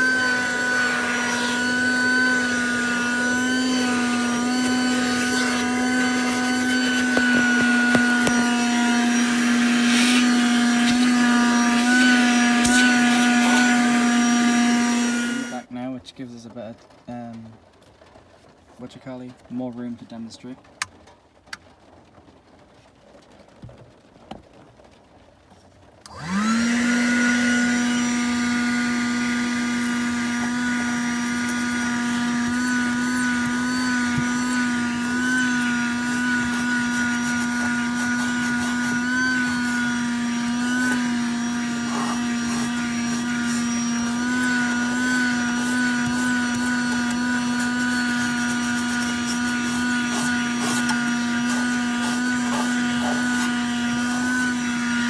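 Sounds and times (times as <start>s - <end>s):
vacuum cleaner motor whining: 0.0s - 15.7s, 26.1s - 55.0s.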